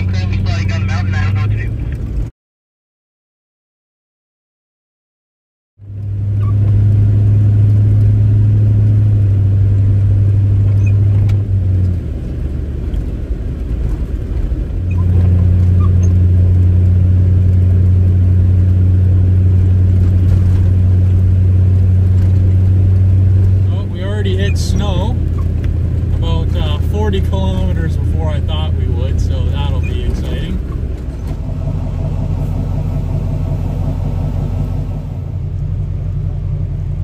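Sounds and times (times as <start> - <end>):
truck engine droning: 0.0 - 2.3, 5.8 - 37.0.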